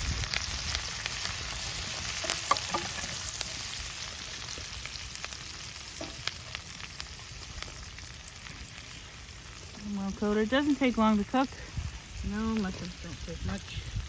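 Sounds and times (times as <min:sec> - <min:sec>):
mushrooms sizzling in a pan: 0:00.0 - 0:14.0.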